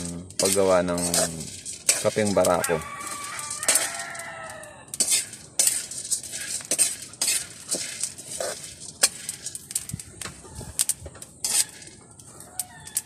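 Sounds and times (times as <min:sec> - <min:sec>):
metal spoon scraping metal pan: 0:00.0 - 0:13.0.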